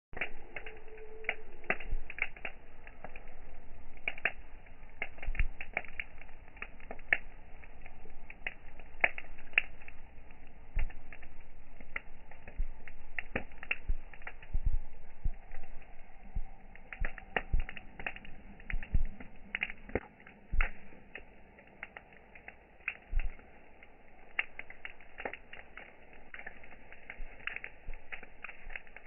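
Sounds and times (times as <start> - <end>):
campfire crackling: 0.2 - 29.0
low steady fire hiss: 0.2 - 29.0.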